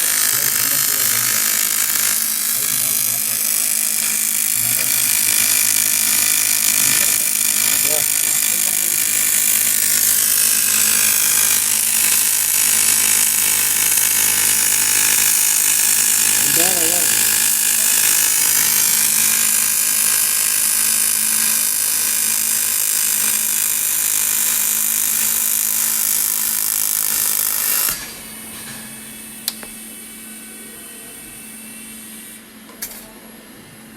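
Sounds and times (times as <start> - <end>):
welding arc buzzing: 0.0 - 32.5.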